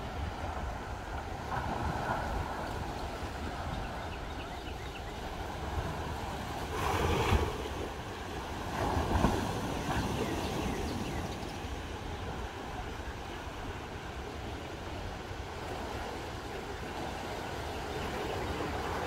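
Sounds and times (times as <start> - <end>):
small waves washing on shore: 0.0 - 19.0
wind rumbling on microphone: 0.0 - 19.0.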